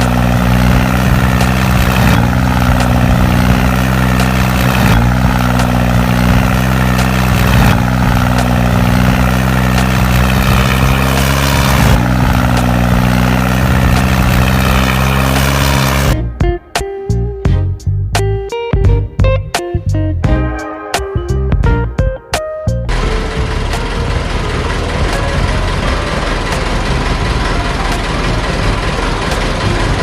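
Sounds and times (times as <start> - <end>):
tractor engine drone: 0.0 - 18.5, 20.0 - 30.0
guitar music: 0.0 - 30.0.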